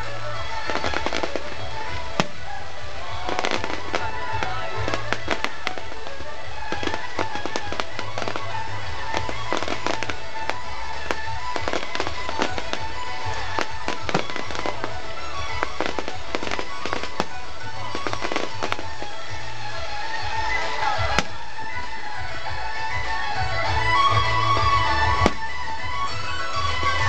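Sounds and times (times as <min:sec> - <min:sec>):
fireworks bangs and crackles: 0:00.0 - 0:27.0
music playing: 0:00.0 - 0:27.0.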